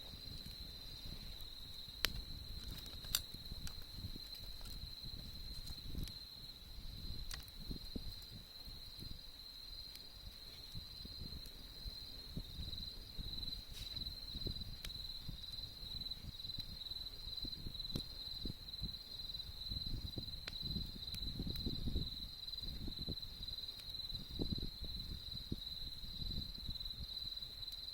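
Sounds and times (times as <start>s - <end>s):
campfire popping: 0.0s - 27.9s
crickets trilling: 0.0s - 27.9s
fire crackling: 0.0s - 27.9s.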